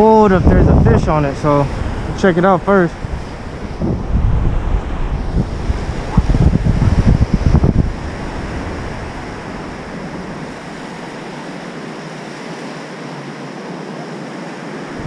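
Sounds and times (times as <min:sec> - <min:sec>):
wind rumble on microphone: 0:00.0 - 0:12.4
waves washing on sandy beach: 0:00.0 - 0:15.0.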